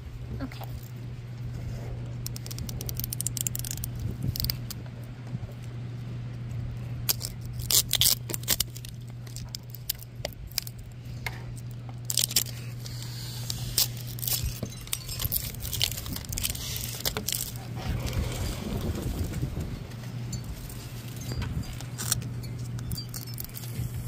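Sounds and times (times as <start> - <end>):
steady low hum: 0.0 - 24.0
plastic wrapper crinkling and tearing: 2.2 - 4.8, 7.0 - 24.0.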